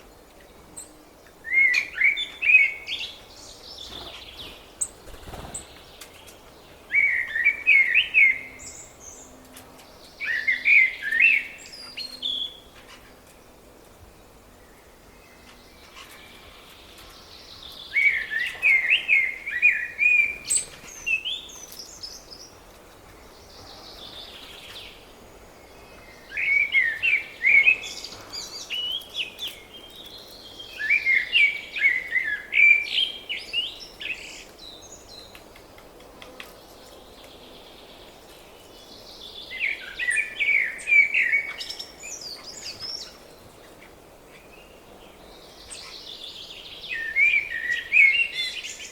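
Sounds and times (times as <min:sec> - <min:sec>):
faint outdoor hiss: 0:00.0 - 0:48.9
songbird chirping: 0:00.0 - 0:48.9.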